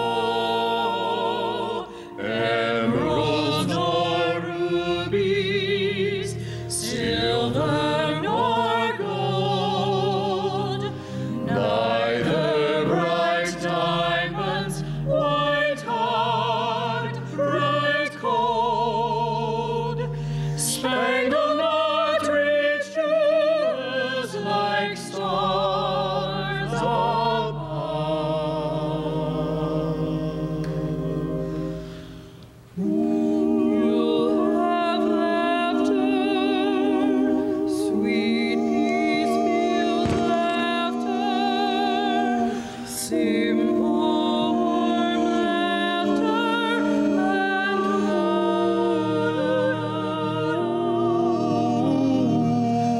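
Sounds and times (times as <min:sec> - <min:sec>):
vocal quartet singing in harmony: 0:00.0 - 0:52.9.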